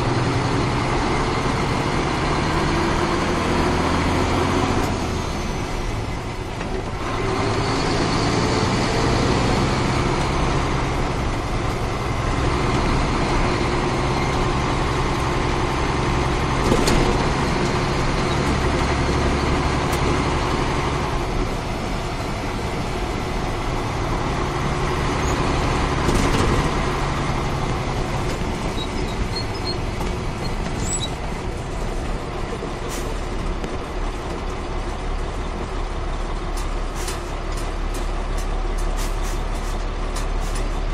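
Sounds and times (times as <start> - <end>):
diesel truck engine driving: 0.0 - 40.9.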